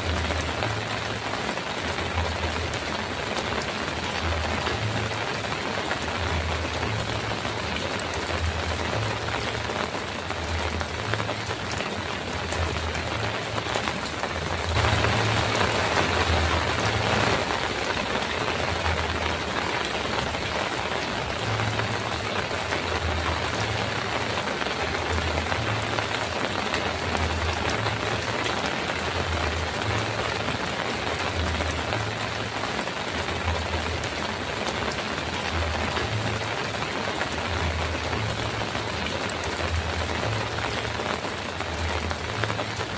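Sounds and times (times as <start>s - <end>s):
heavy rain on a metal roof: 0.0s - 42.9s.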